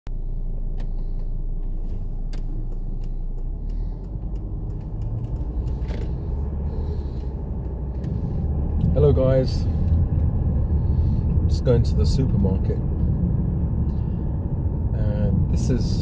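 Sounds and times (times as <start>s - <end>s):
car engine rumble: 0.1s - 16.0s.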